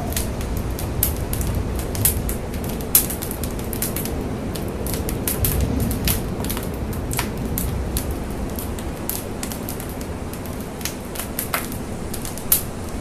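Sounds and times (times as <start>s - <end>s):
fire crackling and popping: 0.0s - 13.0s
fire rumbling: 0.0s - 13.0s.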